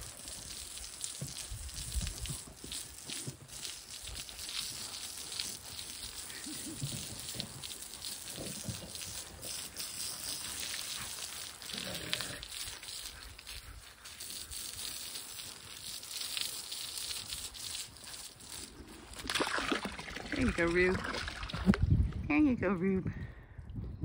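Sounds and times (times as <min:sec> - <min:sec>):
hose spraying water: 0:00.0 - 0:21.8.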